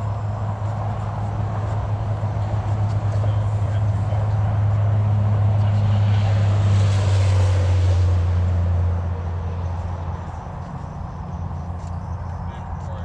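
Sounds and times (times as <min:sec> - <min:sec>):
boat engine hum: 0:00.0 - 0:13.0
rushing wind: 0:00.0 - 0:13.0.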